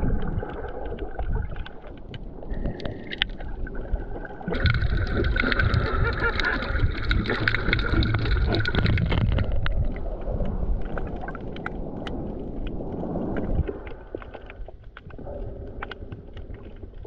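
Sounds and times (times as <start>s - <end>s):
muffled underwater rumble: 0.0s - 17.0s
underwater clicks and crackles: 0.0s - 17.0s.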